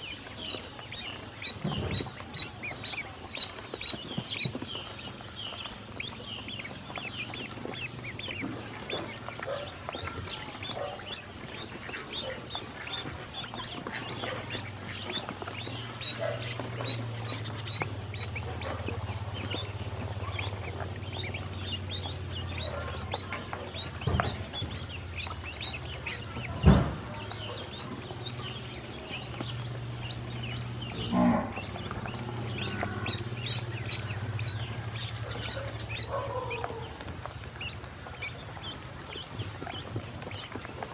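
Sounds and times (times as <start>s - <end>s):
ducklings peeping: 0.0s - 40.9s
low steady hum: 0.0s - 40.9s.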